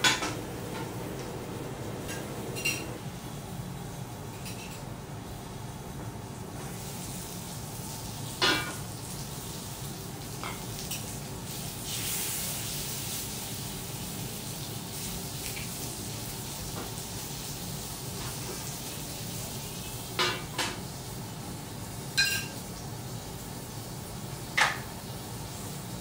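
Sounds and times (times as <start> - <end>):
food sizzling on griddle: 0.0 - 26.0.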